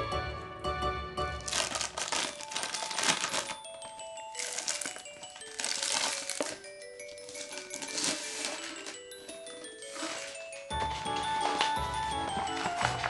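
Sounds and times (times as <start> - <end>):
background music: 0.0 - 13.0
plastic wrapping crinkling: 1.4 - 13.0.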